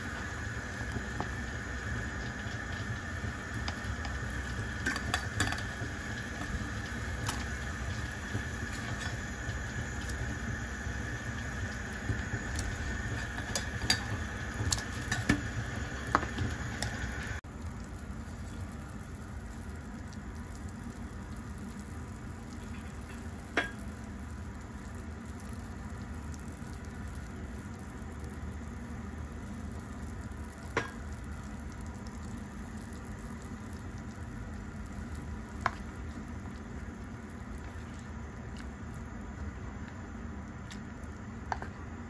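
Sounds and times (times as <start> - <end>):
soup bubbling in a pot: 0.0 - 42.0.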